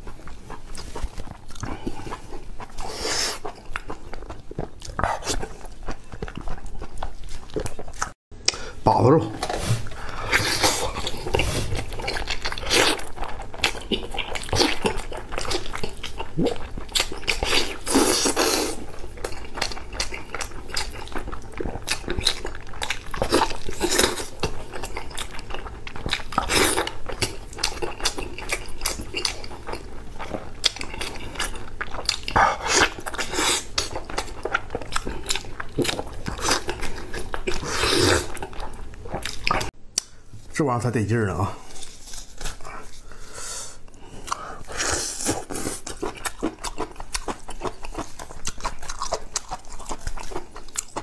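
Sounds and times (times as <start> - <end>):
wet chewing and smacking: 0.0 - 8.6, 9.4 - 40.2, 43.8 - 51.0.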